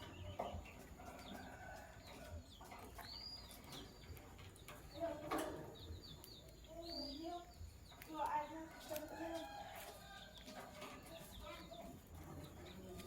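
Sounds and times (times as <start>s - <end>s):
lovebirds chirping: 0.0s - 13.0s.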